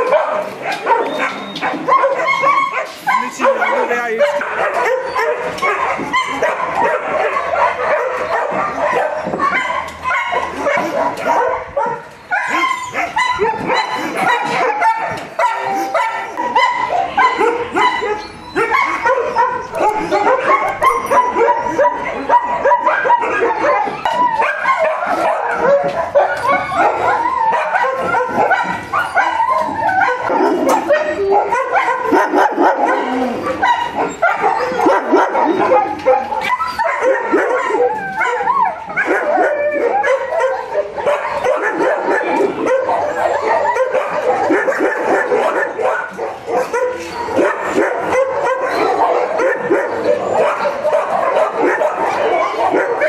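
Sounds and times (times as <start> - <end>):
many dogs barking: 0.0 - 53.0.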